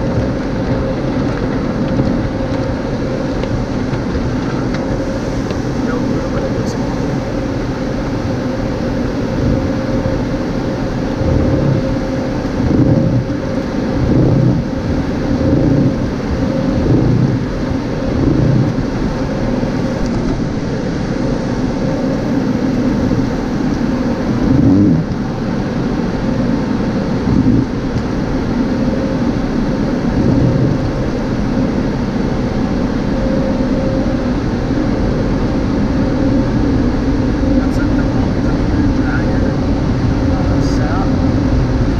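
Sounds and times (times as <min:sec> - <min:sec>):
steady hum: 0:00.0 - 0:41.9
water spray and blown air: 0:00.0 - 0:41.9.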